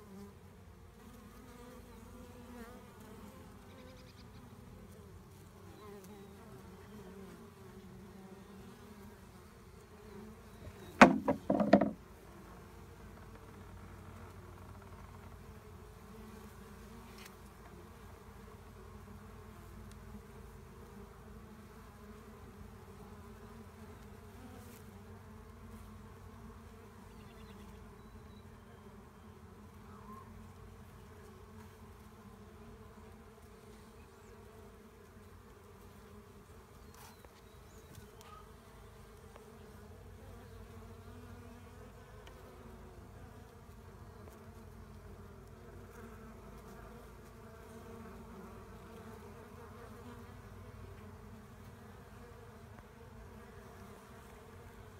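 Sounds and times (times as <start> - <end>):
bee swarm buzzing: 0.0 - 28.0, 28.7 - 54.9.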